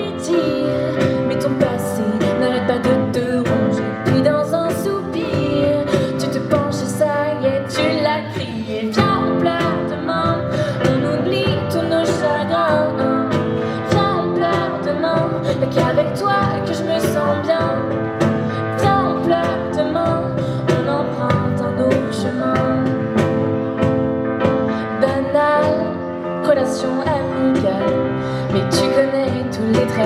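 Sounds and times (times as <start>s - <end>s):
pop music backing with beat: 0.0s - 30.0s
woman singing: 0.0s - 30.0s.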